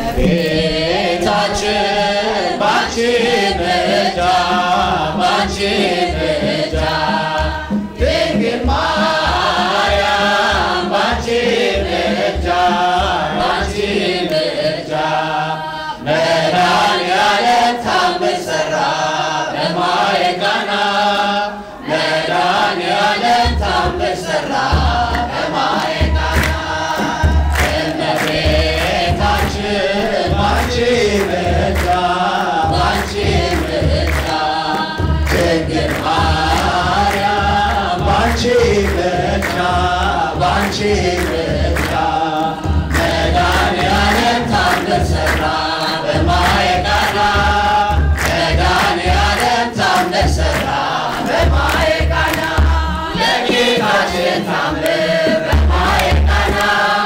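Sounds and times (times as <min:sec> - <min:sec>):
choir singing a hymn: 0:00.0 - 0:57.0
drum beating a steady pulse: 0:00.0 - 0:57.0.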